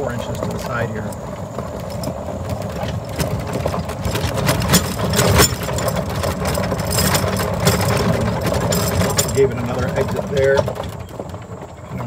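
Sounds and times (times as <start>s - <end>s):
gravel clicks and rattles: 0.0s - 12.0s
vehicle engine running: 0.0s - 12.0s.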